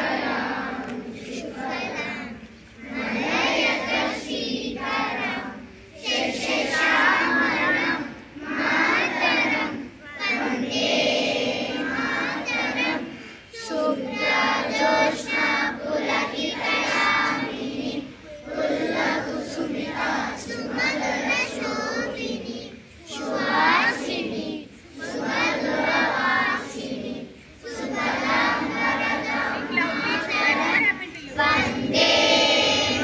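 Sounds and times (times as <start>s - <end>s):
children singing in unison: 0.0s - 33.0s.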